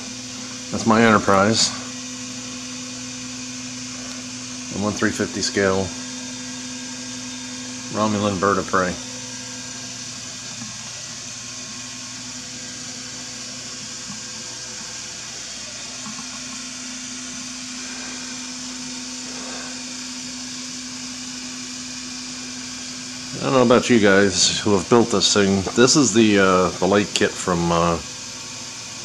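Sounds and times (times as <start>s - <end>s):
low even hum: 0.0s - 29.0s.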